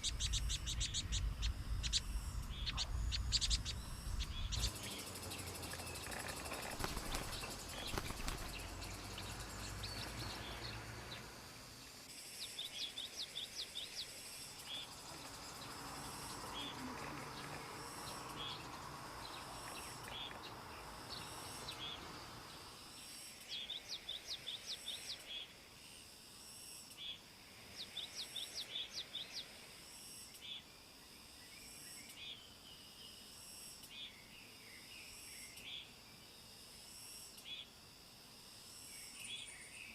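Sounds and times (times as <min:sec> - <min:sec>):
insects humming: 0:00.0 - 0:39.9.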